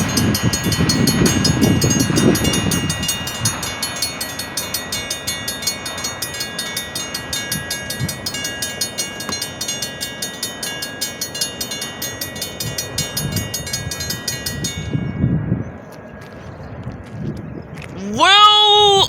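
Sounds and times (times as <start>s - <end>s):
crossing bell ringing tones: 0.0s - 15.5s
train rumbling past: 0.0s - 17.7s.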